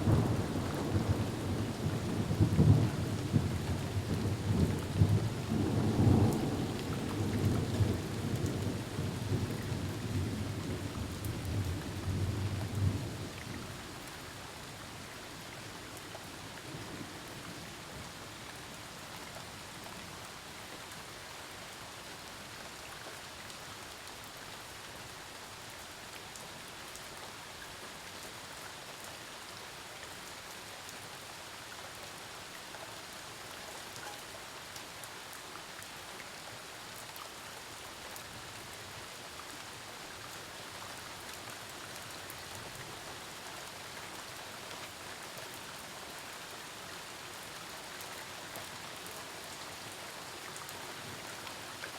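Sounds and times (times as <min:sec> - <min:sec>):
rain hiss: 0:00.0 - 0:51.9.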